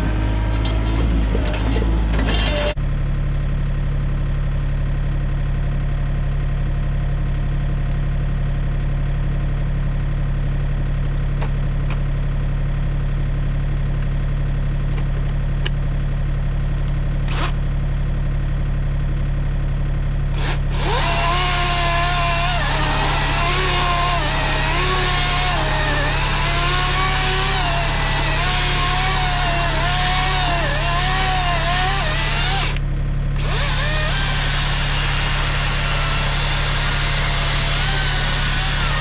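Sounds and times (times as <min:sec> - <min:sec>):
diesel engine idling: 0:02.7 - 0:39.0.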